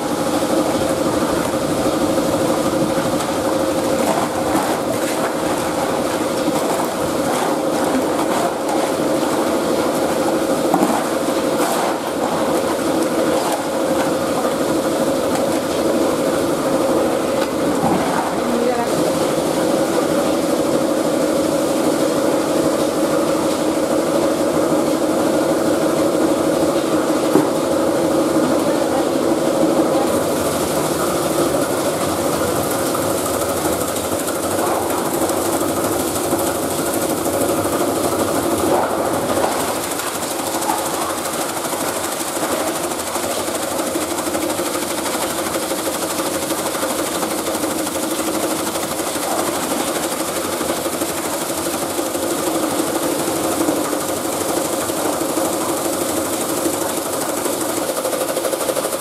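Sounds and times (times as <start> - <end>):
plastic crushing machine grinding: 0.0 - 21.5, 24.2 - 59.0.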